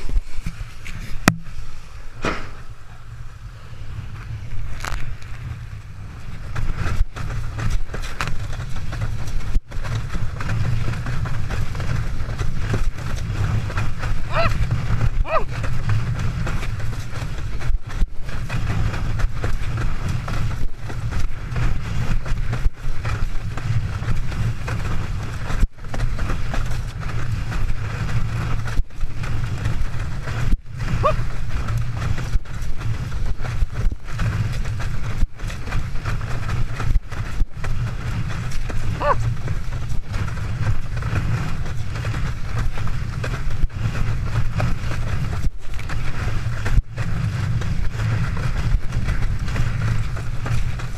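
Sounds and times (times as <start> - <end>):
wind buffeting: 0.0 - 50.9.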